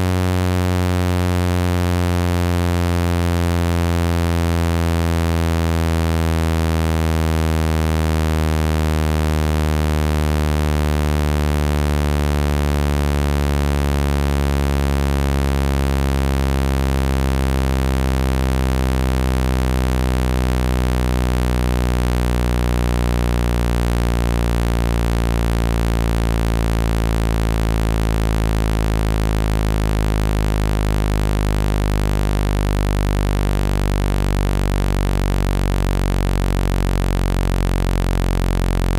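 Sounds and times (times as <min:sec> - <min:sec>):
low buzzy synthesized tone: 0:00.0 - 0:38.9.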